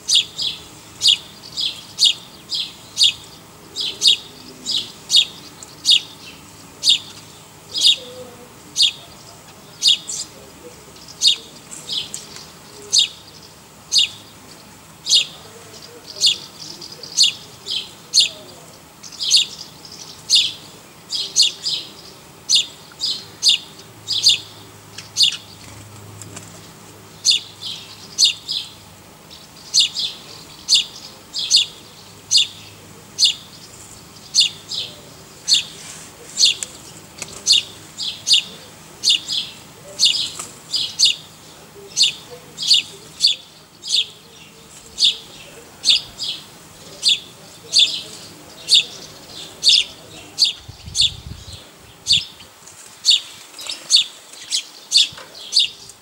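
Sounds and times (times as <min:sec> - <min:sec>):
small bird chirping: 0:00.0 - 0:25.8, 0:26.6 - 0:35.8, 0:36.4 - 0:56.0.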